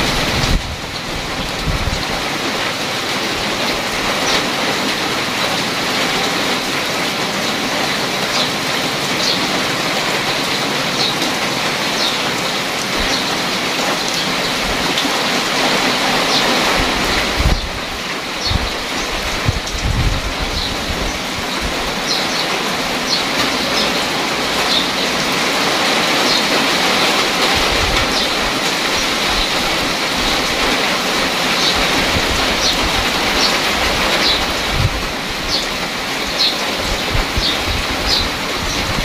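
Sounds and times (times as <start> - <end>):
rain falling into a puddle: 0.0 - 39.0.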